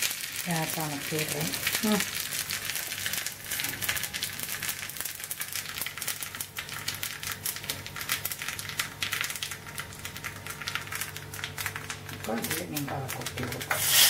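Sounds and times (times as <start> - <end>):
seeds popping in hot oil: 0.0 - 14.0.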